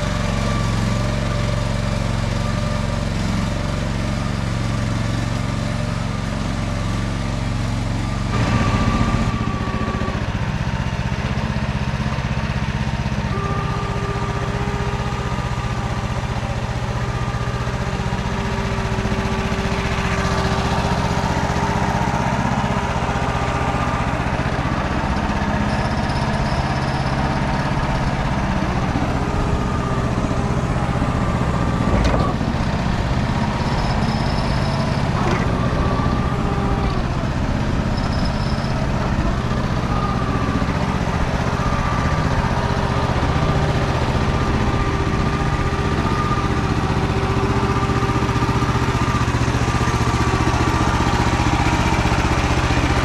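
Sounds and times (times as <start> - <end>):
tractor engine running under load: 0.0 - 53.0.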